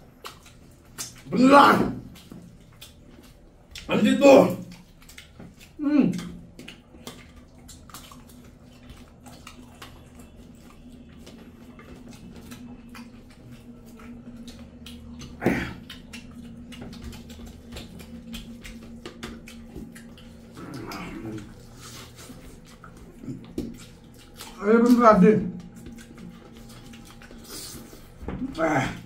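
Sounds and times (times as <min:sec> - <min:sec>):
fingers mixing food on plates: 0:00.0 - 0:29.0
mouths chewing: 0:00.0 - 0:29.0
steady low hum: 0:00.0 - 0:29.0.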